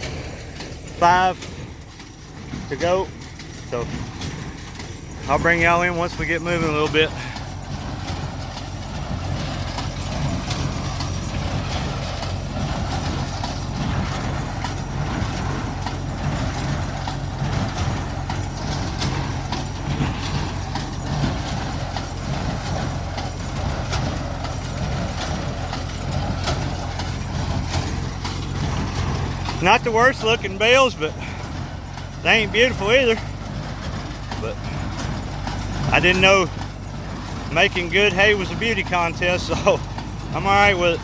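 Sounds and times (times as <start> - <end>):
baler mechanical knocks: 0.0 - 41.0
tractor engine running: 0.0 - 41.0.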